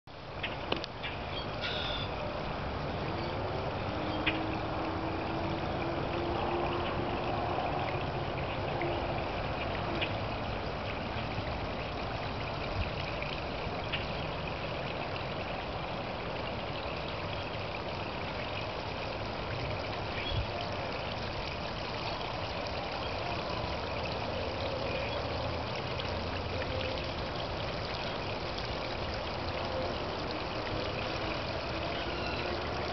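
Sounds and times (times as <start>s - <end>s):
water trickling over rocks: 0.1s - 32.9s.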